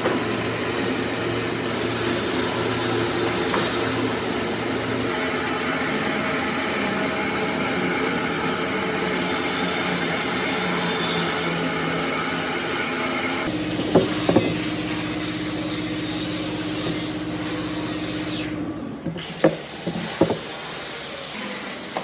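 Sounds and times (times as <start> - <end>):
electric power tool whirring: 0.0 - 22.0.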